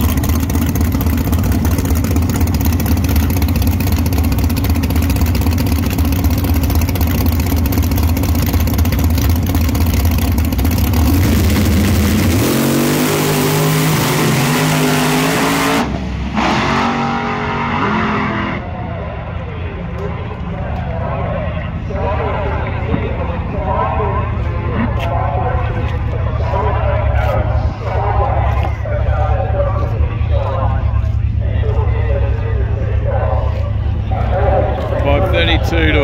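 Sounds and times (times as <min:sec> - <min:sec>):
distant engine sound: 0:00.0 - 0:36.0
drag race car engines: 0:00.0 - 0:36.0.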